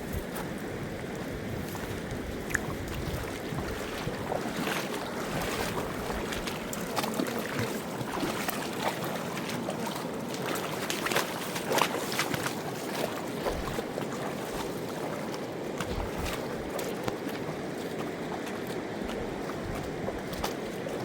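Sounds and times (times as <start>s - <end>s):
rushing river water: 0.0s - 21.0s
water splashes: 0.0s - 21.0s.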